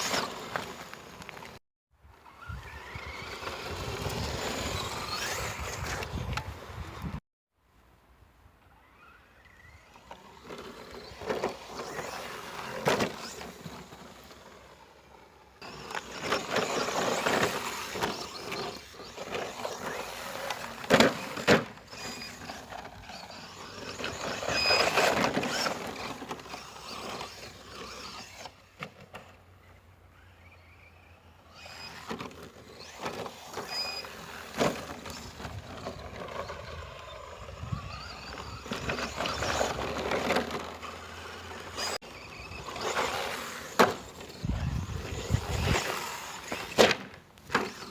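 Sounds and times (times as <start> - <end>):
rc truck electric motor: 0.0 - 7.2, 8.7 - 47.9.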